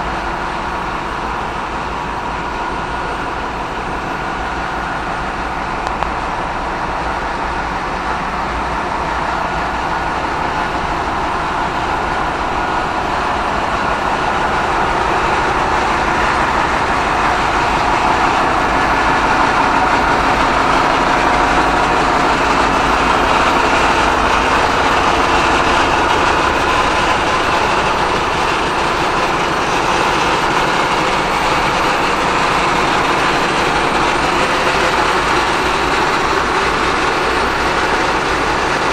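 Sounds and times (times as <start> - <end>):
engine-room machinery drone: 0.0 - 38.9.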